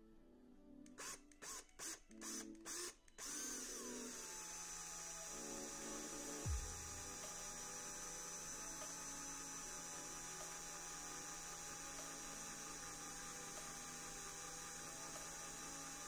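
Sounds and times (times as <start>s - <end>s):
power drill humming: 0.9s - 16.0s.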